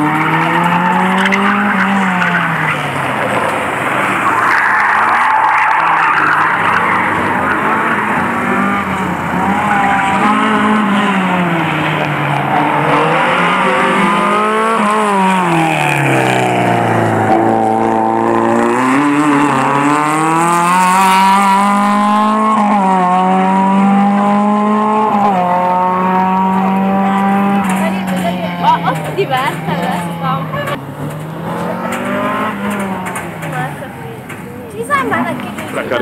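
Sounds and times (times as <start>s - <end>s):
racing car engine revving: 0.0s - 36.0s.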